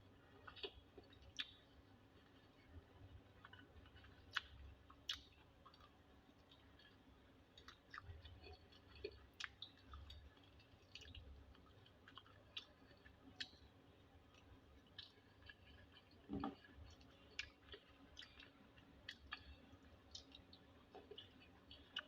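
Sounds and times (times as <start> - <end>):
quiet chewing: 0.1 - 22.0.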